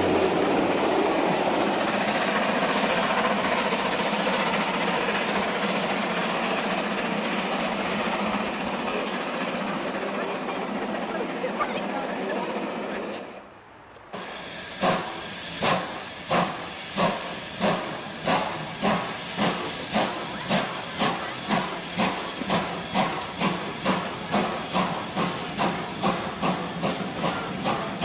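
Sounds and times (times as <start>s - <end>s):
hiss of steam: 0.0s - 13.2s, 14.1s - 28.0s
steam locomotive chuffing: 0.0s - 13.5s, 14.1s - 28.0s.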